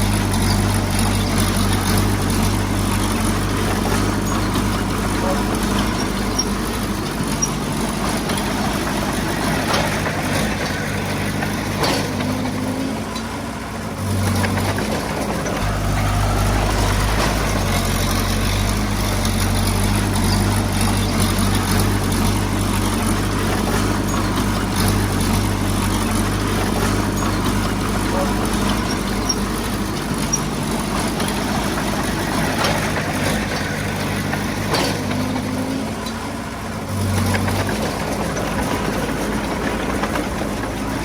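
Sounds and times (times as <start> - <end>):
heavy equipment diesel engine: 0.0 - 41.0.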